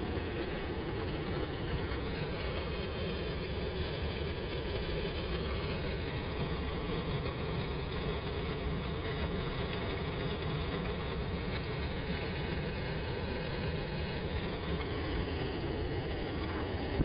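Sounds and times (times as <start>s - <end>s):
water splashing down a waterfall: 0.0s - 17.0s.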